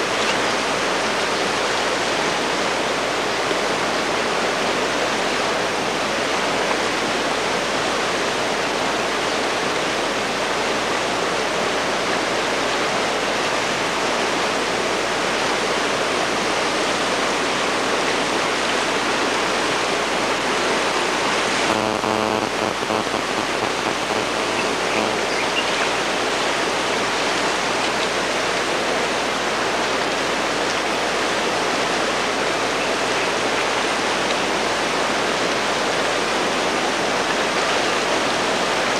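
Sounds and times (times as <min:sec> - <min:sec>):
floodwater rushing: 0:00.0 - 0:21.7, 0:22.4 - 0:38.9.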